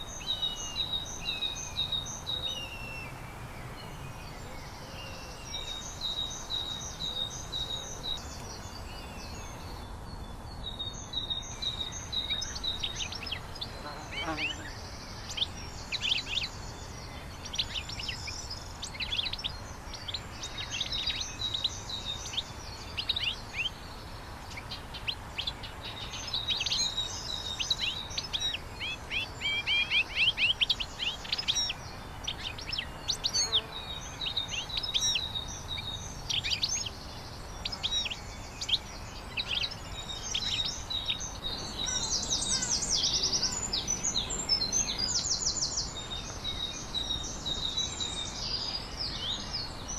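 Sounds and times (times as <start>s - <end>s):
low outdoor background: 0.0s - 49.9s
small birds chirping: 0.0s - 49.9s.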